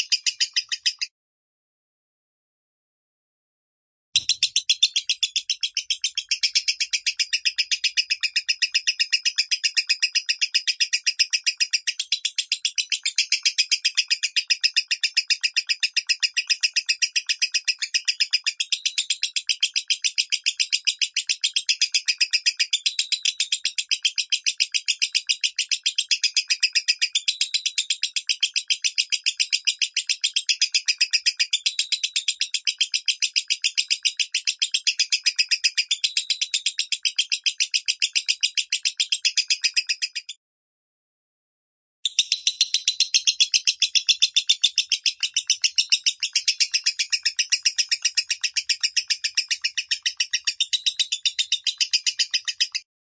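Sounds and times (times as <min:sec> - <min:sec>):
lovebird chirping: 0:00.0 - 0:01.1, 0:04.2 - 0:40.4, 0:42.0 - 0:52.9.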